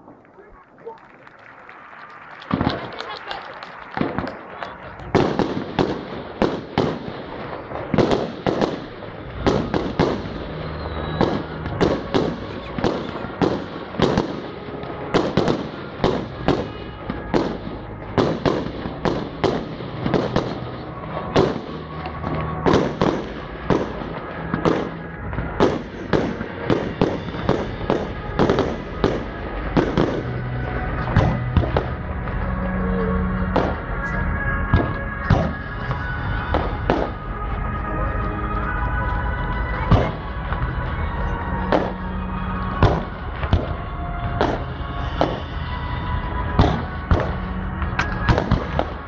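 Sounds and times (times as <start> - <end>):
fireworks bursting with sharp bangs: 0.0 - 49.0.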